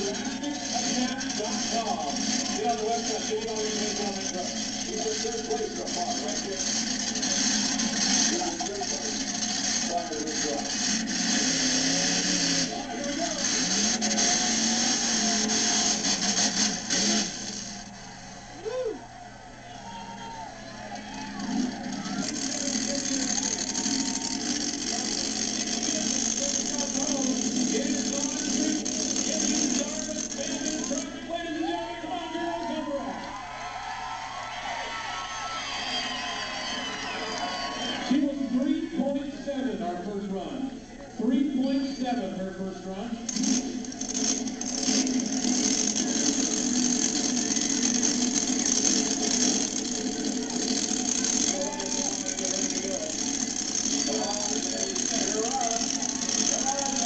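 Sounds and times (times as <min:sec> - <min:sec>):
monster truck engine at full throttle: 0:00.0 - 0:33.6, 0:34.6 - 0:57.0.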